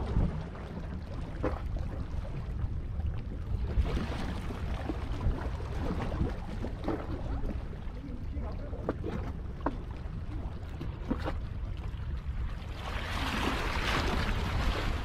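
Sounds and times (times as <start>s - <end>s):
water lapping: 0.0s - 15.0s.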